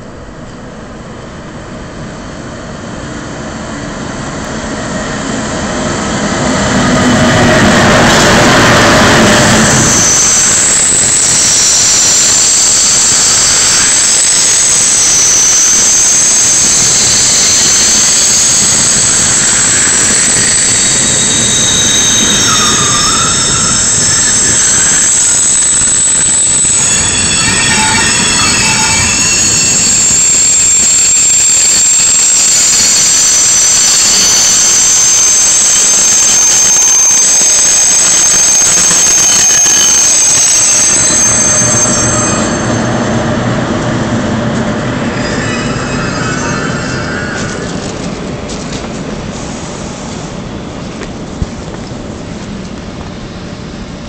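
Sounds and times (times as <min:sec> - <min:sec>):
train rumble: 0:00.0 - 0:54.0
train brakes squealing: 0:03.5 - 0:51.3.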